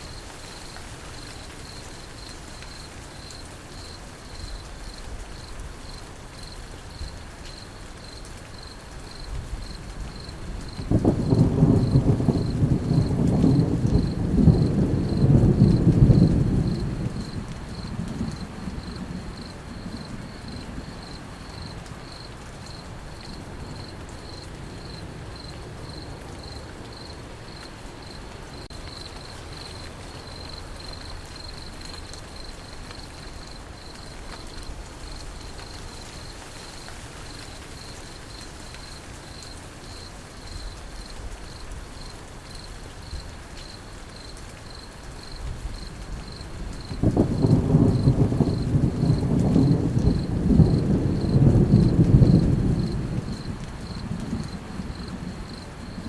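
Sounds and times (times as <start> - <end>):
crickets chirping: 0.0 - 56.0
falling rain: 0.0 - 56.0
low rumble of thunder: 8.6 - 43.4, 44.2 - 56.0.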